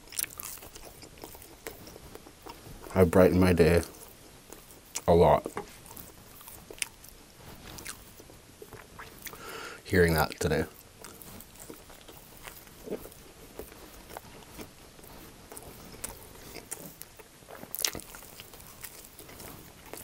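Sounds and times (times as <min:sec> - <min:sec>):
wet mouth chewing sounds: 0:00.0 - 0:20.0.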